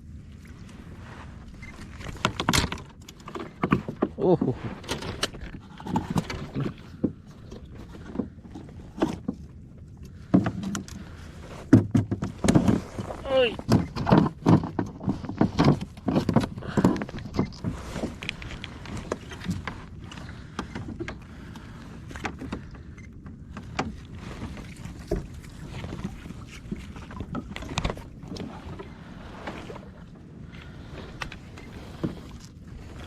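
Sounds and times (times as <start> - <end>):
water sloshing and splashing: 0.0 - 33.0.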